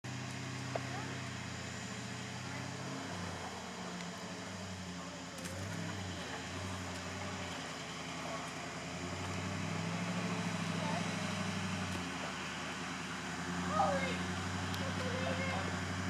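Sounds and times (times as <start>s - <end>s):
off-road vehicle engine: 0.0s - 16.0s.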